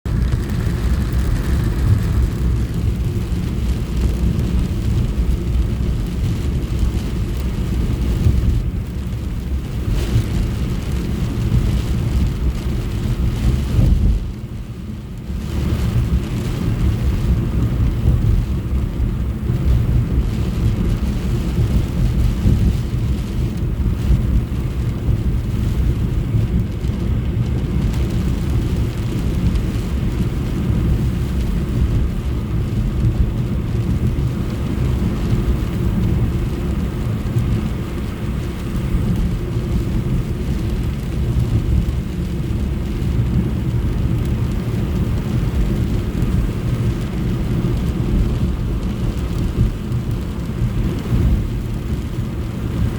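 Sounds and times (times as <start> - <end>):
road and engine rumble: 0.0 - 52.9
rain hissing on car body: 0.1 - 52.9.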